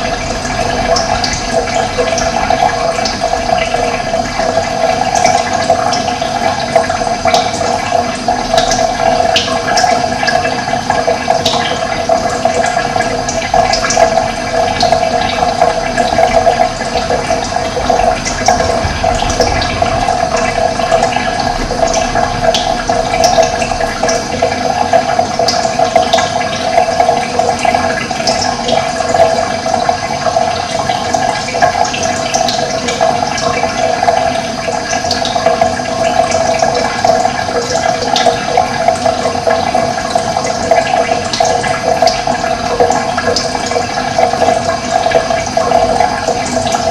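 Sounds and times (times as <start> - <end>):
running water flowing: 0.0 - 46.9.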